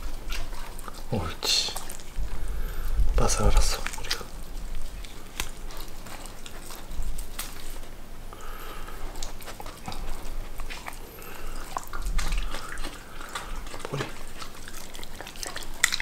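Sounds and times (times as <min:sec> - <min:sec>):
dog chewing wetly: 0:00.0 - 0:16.0
teeth clicking: 0:01.7 - 0:16.0.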